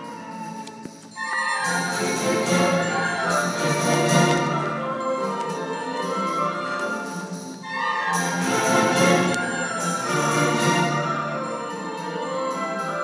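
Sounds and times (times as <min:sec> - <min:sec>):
symphony orchestra playing: 0:00.0 - 0:13.0.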